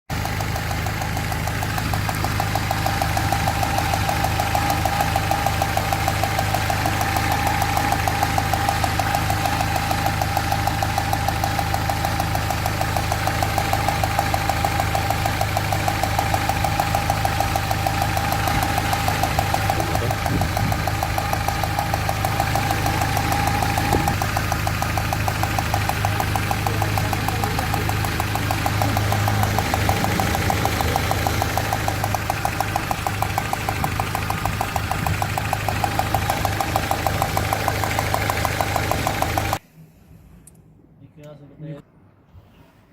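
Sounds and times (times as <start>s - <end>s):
car engine misfiring: 0.0s - 39.6s.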